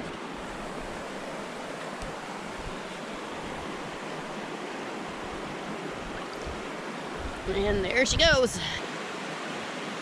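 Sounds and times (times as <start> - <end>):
brook water rushing: 0.0 - 10.0.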